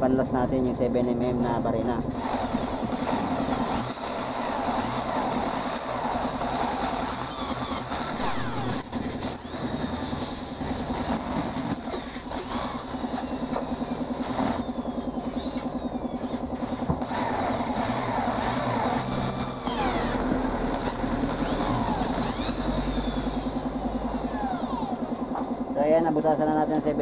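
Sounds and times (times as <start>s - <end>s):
electric drill boring into metal: 1.8s - 25.4s.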